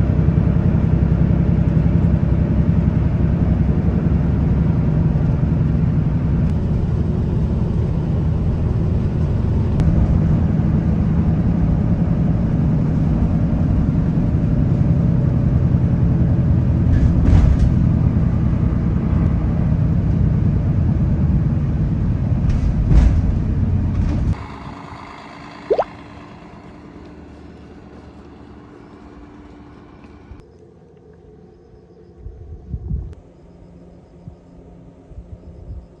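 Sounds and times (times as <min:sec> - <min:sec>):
low engine rumble: 0:00.0 - 0:36.0.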